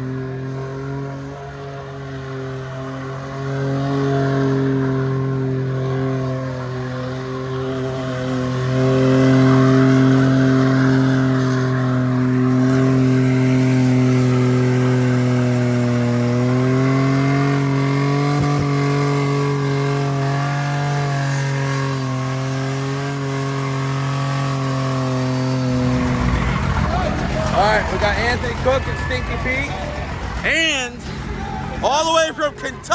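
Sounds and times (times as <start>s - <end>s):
engine at high revs: 0.0s - 32.9s.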